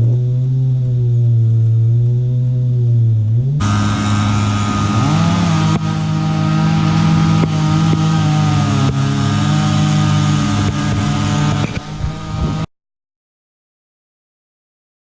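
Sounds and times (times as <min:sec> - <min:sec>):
engine running at high speed: 0:00.0 - 0:12.7.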